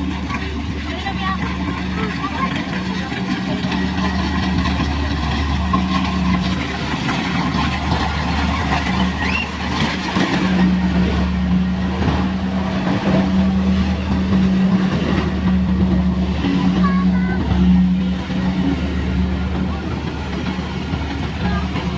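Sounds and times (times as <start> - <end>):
combine harvester engine droning: 0.0 - 21.9.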